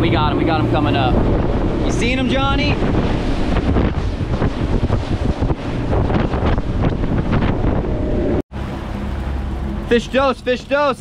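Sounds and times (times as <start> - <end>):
water under boat: 0.0 - 10.8
boat motors: 0.0 - 11.0
wind buffeting microphone: 0.0 - 11.0.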